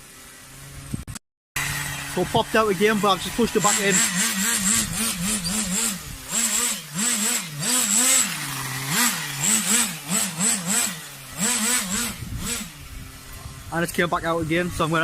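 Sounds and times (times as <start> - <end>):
small engine revving in blips: 0.0 - 13.7.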